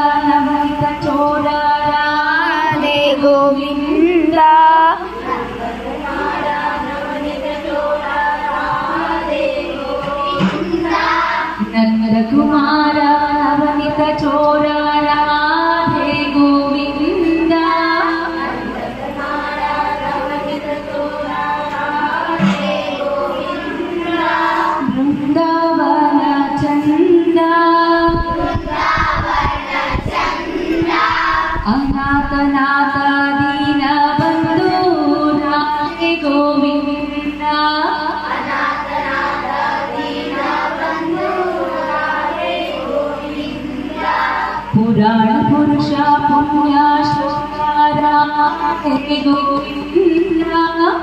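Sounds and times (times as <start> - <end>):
woman singing devotional song: 0.0 - 28.7, 31.5 - 38.5, 44.6 - 51.0.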